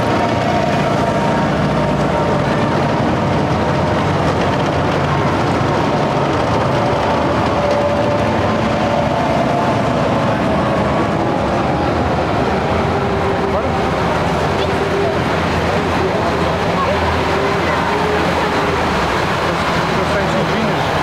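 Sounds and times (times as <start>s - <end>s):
heavy vehicle engines droning: 0.0s - 21.0s.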